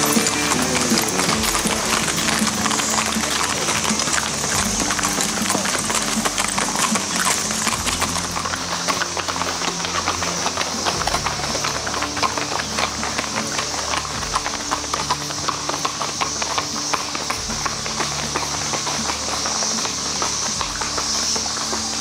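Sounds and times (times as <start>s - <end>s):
cicada chorus drone: 0.0s - 22.0s
horse hooves clip-clopping on road: 0.0s - 22.0s.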